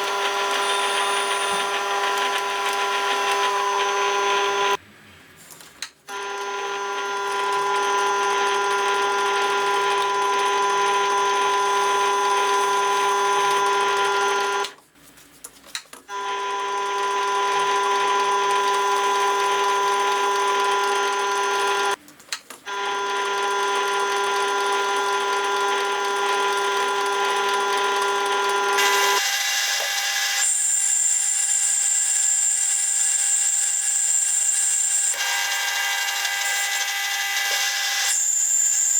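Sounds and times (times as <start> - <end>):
electric power tool whining: 0.0 - 4.8, 6.1 - 14.8, 16.1 - 22.0, 22.7 - 38.9.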